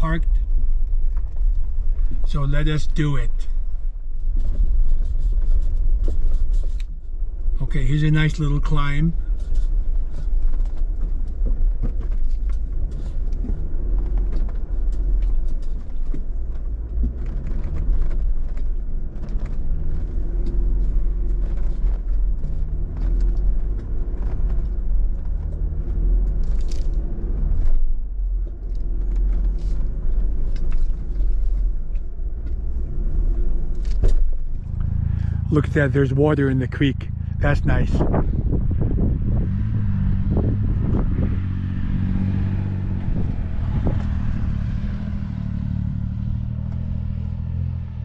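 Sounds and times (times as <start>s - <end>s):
off-road engine rumble: 0.0s - 48.0s.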